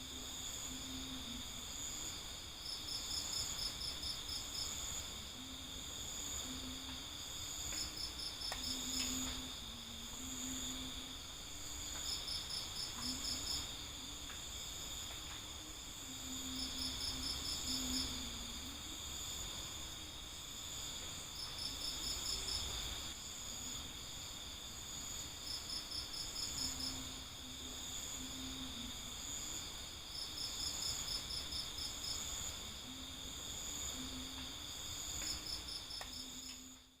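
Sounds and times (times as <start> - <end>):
cricket pulsing song: 0.0 - 37.0
crickets trilling: 0.0 - 37.0.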